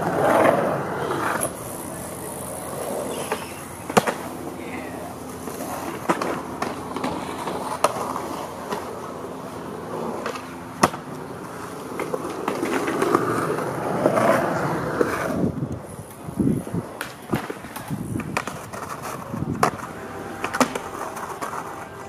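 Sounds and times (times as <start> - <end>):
skateboard clacking on concrete: 0.0 - 22.0
skateboard wheels rolling on concrete: 0.0 - 22.0.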